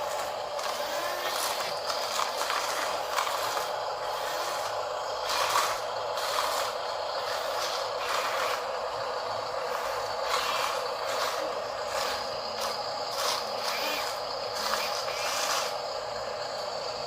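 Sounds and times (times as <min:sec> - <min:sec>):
short gearbox rasps: 0:00.0 - 0:15.9
toy truck electric motor: 0:00.0 - 0:17.0.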